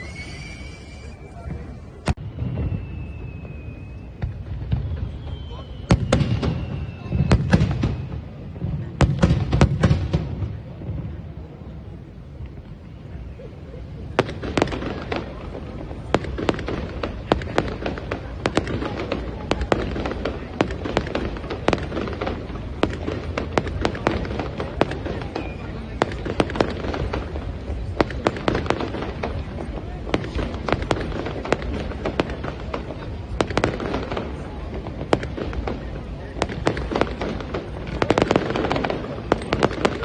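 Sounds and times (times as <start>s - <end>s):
fireworks cracking and banging: 0.0s - 40.0s.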